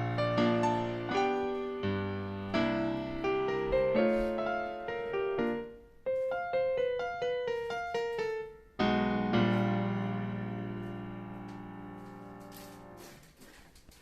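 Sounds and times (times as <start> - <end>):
piano music: 0.0 - 13.2.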